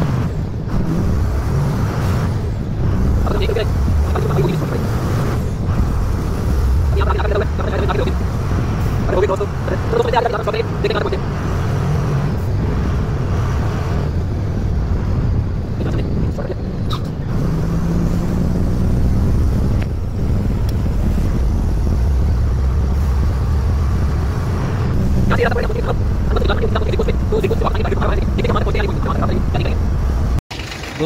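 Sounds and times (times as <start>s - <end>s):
road noise: 0.0s - 31.0s
truck engine running: 0.0s - 31.0s.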